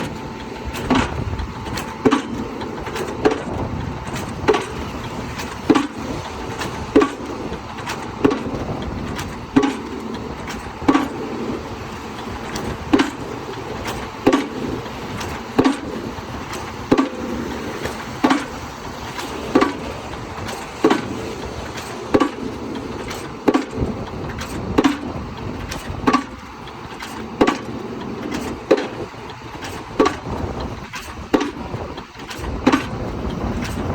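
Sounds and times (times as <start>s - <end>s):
machine running: 0.0s - 33.9s.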